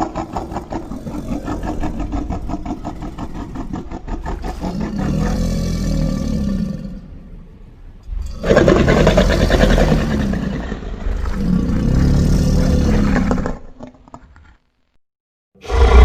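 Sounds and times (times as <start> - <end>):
low rough monster roar: 0.0 - 7.3, 8.1 - 13.6, 15.6 - 16.0.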